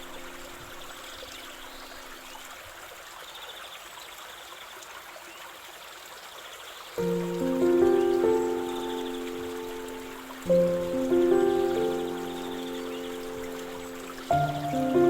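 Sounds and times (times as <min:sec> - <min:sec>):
stream trickling and babbling: 0:00.0 - 0:15.0.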